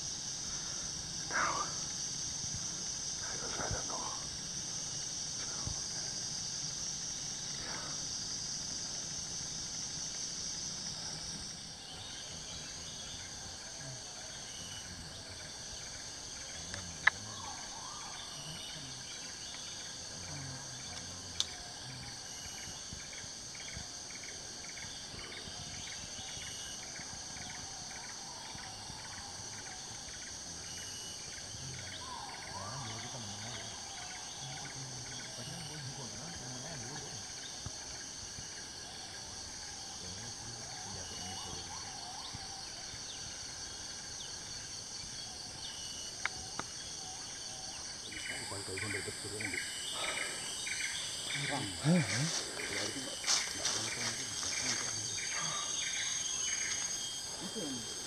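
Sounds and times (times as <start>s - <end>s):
insect chorus buzzing: 0.0s - 58.0s.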